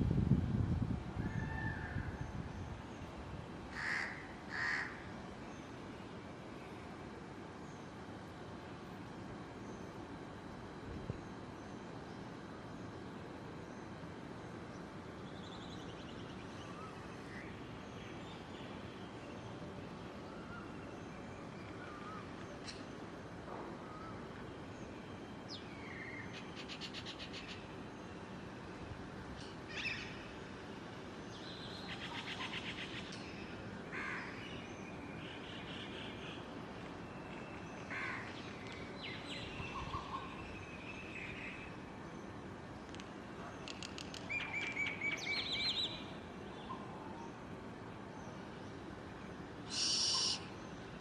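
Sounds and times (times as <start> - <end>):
steady background hum: 0.0 - 51.0.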